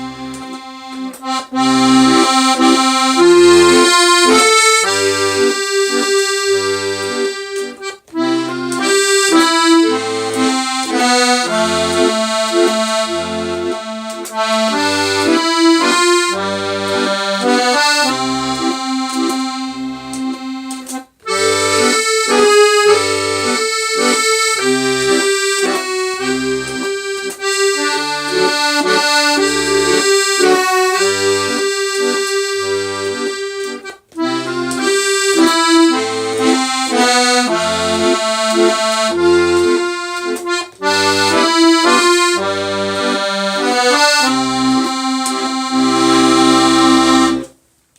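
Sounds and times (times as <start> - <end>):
solo accordion playing: 0.0 - 47.6.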